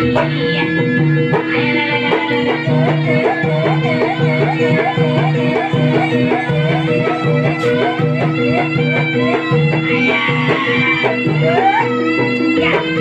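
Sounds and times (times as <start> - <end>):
held drone tone: 0.0 - 13.0
steady drum beat: 0.0 - 13.0
reed wind instrument: 1.6 - 13.0.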